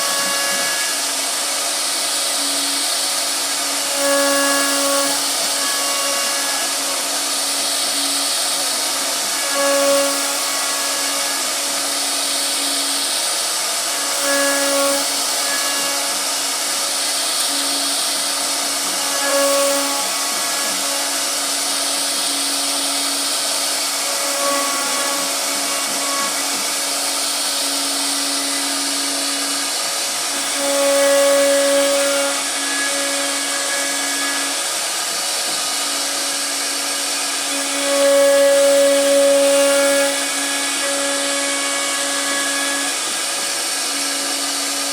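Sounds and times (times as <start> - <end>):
router spindle cutting wood: 0.0 - 44.9.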